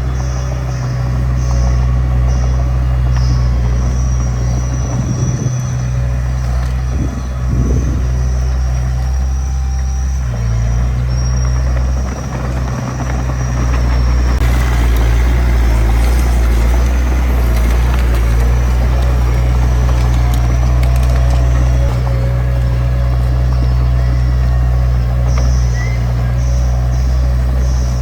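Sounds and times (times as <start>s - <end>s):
heavy machinery diesel engine: 0.0s - 28.0s.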